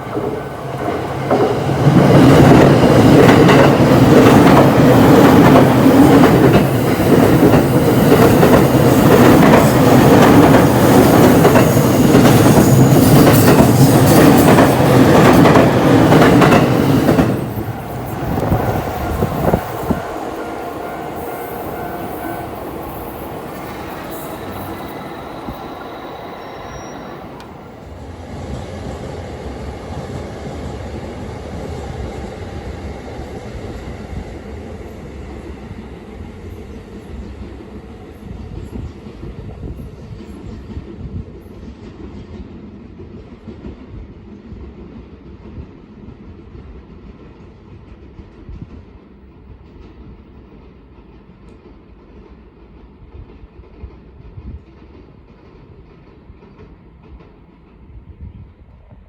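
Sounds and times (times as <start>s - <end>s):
train running on track: 0.0s - 59.0s.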